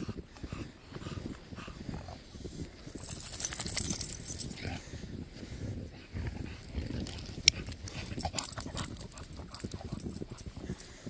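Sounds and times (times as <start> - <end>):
dog breathing heavily: 0.0 - 11.0.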